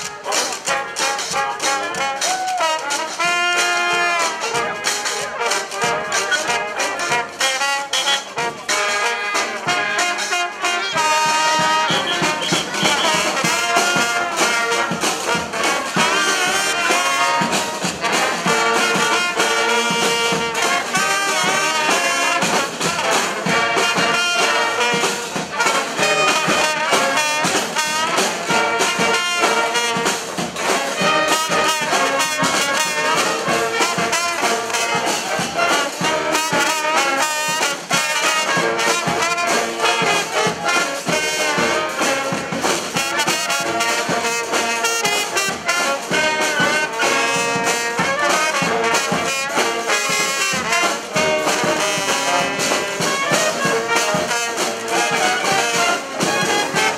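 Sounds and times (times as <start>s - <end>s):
steady drumming: 0.0s - 56.9s
trumpets and trombones: 0.0s - 56.9s.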